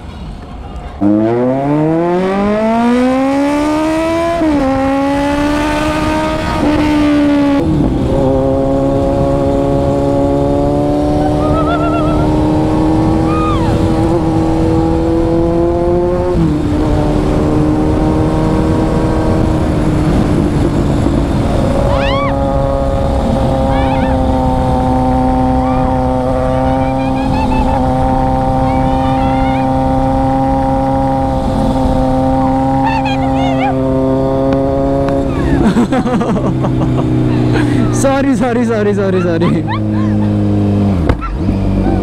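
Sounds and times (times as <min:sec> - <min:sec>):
wind rumble: 0:00.0 - 0:42.0
motorcycle engine accelerating: 0:01.0 - 0:42.0.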